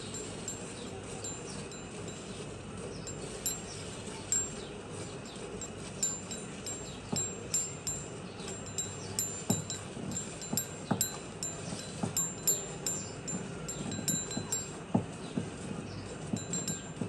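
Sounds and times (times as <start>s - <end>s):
small metal bells tinkling: 0.0s - 15.3s, 16.2s - 17.0s.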